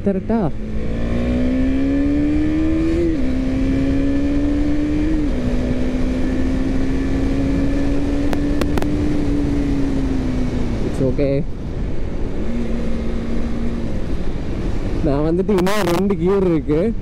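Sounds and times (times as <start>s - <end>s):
motorcycle engine accelerating: 0.0s - 16.2s.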